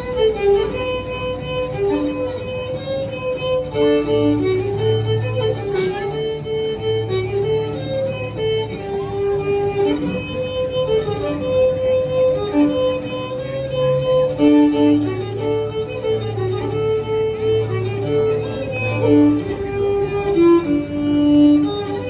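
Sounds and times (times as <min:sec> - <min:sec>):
fiddle melody: 0:00.0 - 0:22.0.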